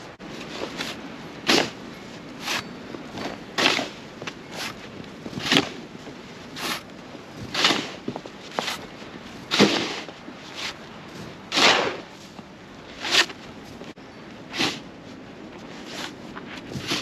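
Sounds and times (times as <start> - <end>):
shovel scraping snow: 0.3 - 13.8, 14.5 - 14.9, 15.6 - 17.0.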